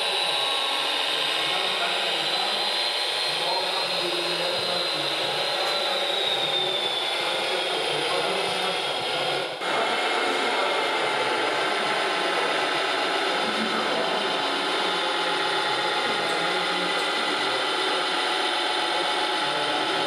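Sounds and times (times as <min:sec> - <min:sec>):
small electric motors whirring: 0:00.0 - 0:20.0.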